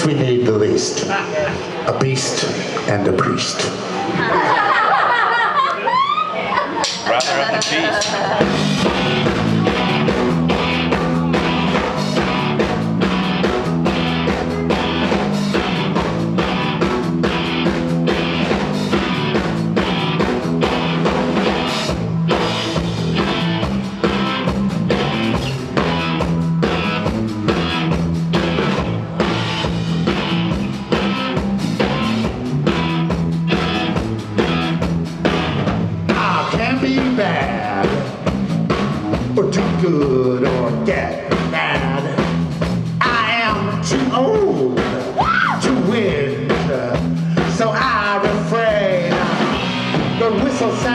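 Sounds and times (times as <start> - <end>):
drum kit beat: 6.8 - 50.9
bass guitar: 7.0 - 50.9
electric guitar: 7.8 - 39.8, 40.4 - 50.9.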